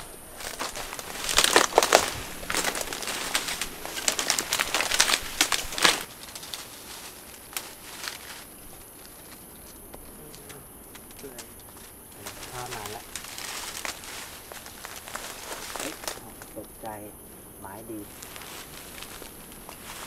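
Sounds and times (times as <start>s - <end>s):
leaves and brush rustling: 0.0s - 20.0s
twigs crackling: 0.0s - 20.0s.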